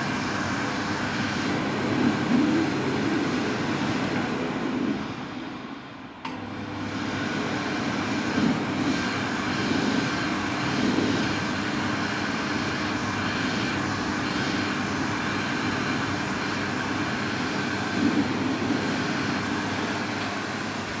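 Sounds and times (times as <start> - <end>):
hand dryer blowing air: 0.0 - 21.0.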